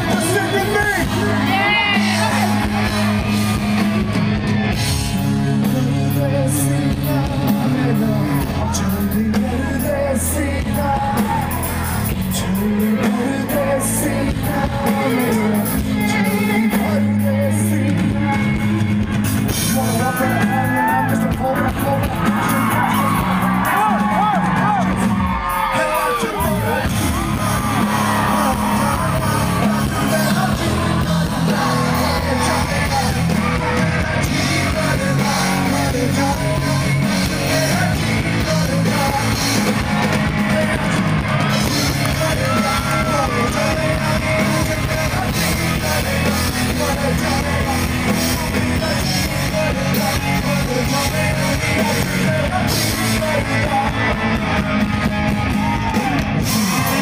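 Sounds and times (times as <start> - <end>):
person rapping and shouting: 0.0 - 3.2, 5.4 - 18.8, 19.6 - 54.8, 55.4 - 57.0
audience yelling: 0.0 - 17.3, 19.2 - 57.0
rock band with bass and drums: 0.0 - 57.0.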